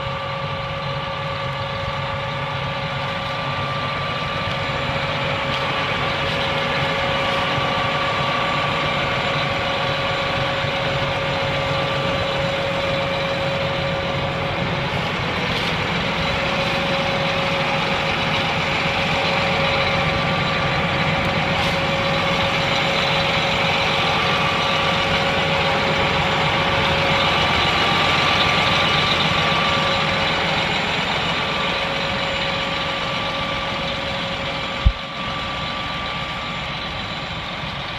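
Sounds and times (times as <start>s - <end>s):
diesel engine idling: 0.0s - 37.9s
steady whine: 0.0s - 37.9s.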